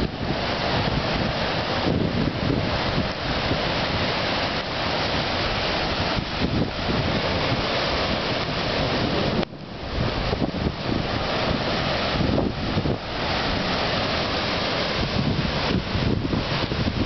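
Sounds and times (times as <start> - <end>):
surf crashing: 0.0 - 17.0
wind gusting across microphone: 0.0 - 17.0.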